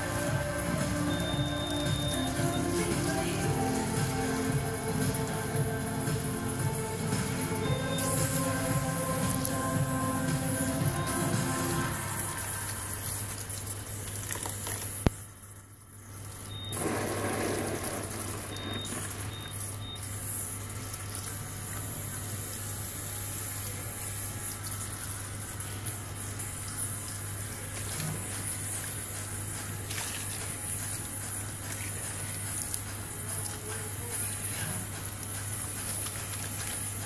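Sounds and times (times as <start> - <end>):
water running into basin: 0.0 - 37.0.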